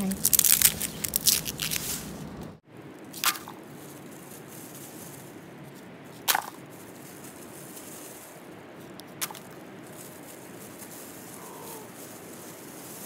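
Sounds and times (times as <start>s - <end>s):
steady background hiss: 1.4s - 13.0s.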